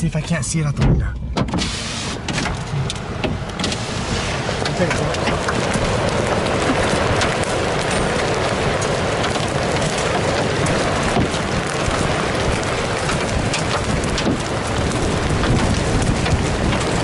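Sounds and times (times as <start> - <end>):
hailstones striking vehicle: 1.3 - 17.0
heavy rain on vehicle roof: 1.3 - 17.0.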